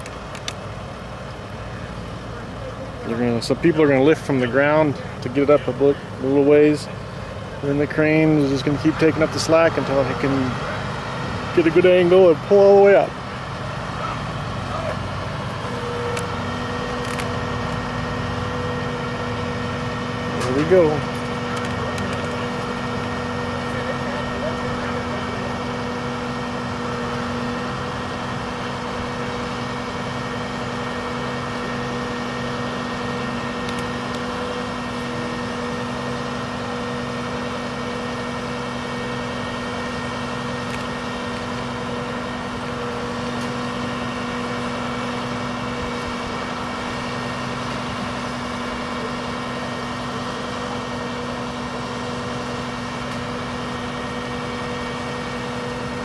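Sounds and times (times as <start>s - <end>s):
crane winch whine: 0.0s - 56.0s
truck engine running: 0.0s - 56.0s.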